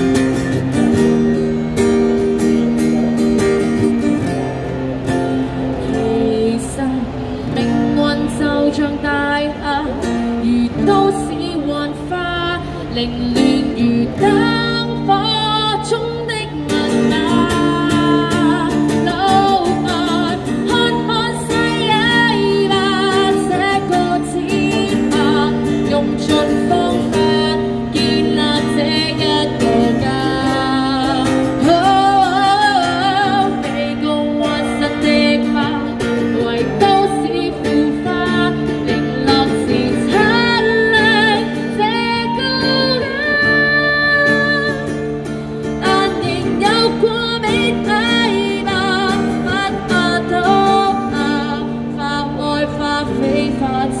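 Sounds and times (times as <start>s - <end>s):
acoustic guitar chords: 0.0s - 54.0s
woman singing: 5.2s - 54.0s.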